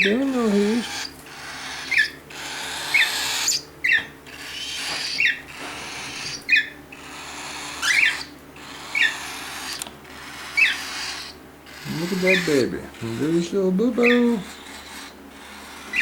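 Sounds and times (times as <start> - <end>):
cockatiel chick begging calls: 0.0 - 16.0.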